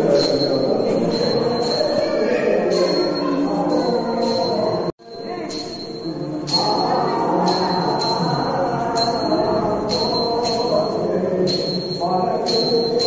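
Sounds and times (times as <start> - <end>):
crowd voices: 0.0 - 13.0
temple bell ringing: 0.0 - 13.0.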